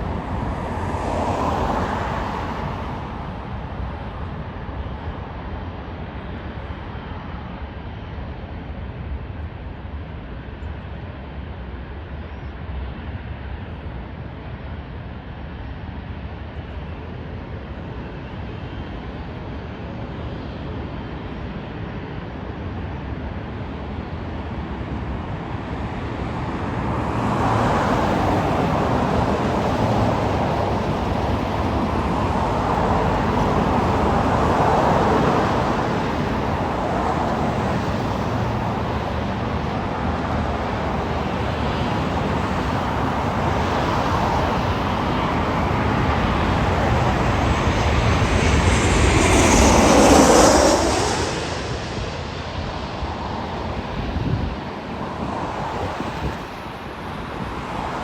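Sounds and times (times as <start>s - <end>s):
jet airliner engine roar: 0.0s - 58.0s.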